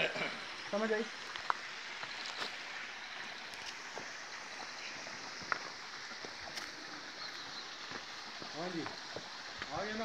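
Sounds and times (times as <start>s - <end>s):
stream running over rocks: 0.0s - 10.0s.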